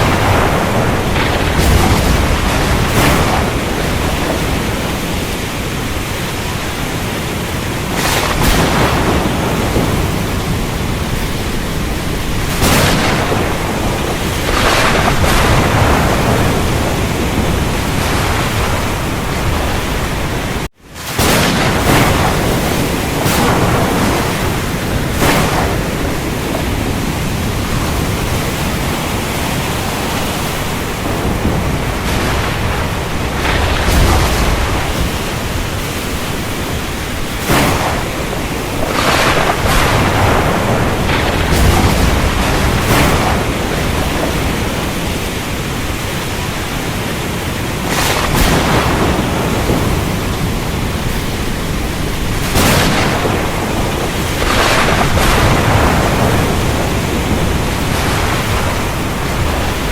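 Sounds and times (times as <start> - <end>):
heavy rain: 0.0 - 59.9
thunder rolling: 0.0 - 59.9.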